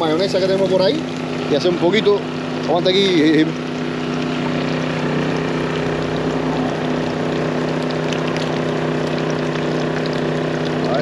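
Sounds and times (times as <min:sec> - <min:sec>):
fish frying in oil: 0:00.0 - 0:11.0
generator engine humming: 0:00.0 - 0:11.0.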